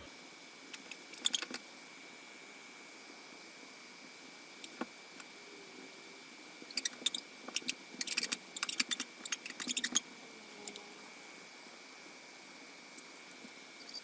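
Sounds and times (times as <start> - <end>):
server fans whirring: 0.0 - 14.0.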